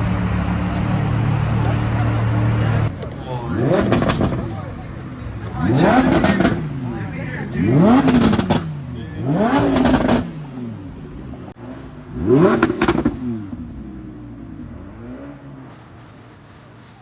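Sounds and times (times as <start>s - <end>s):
exhaust pops and crackles: 0.0s - 11.6s, 12.2s - 17.0s
car engine revving: 0.0s - 17.0s.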